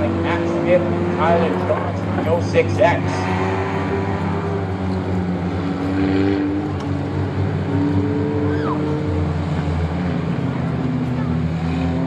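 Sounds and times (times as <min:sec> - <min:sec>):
stock car engines running: 0:00.0 - 0:12.0.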